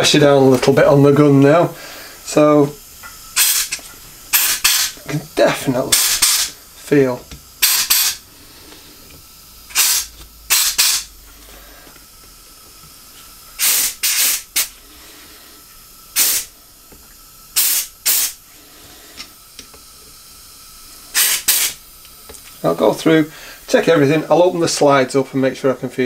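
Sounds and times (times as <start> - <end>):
compressed air blasts: 1.8 - 24.0.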